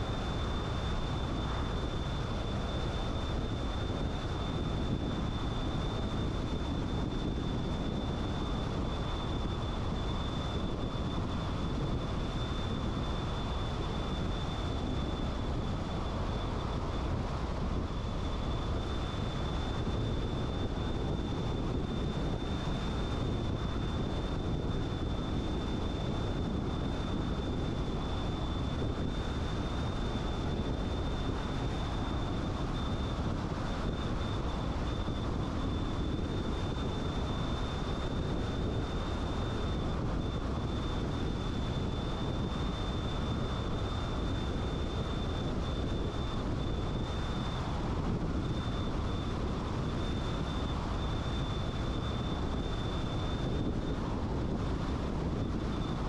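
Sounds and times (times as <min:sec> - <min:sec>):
tyre and wind rumble: 0:00.0 - 0:56.0.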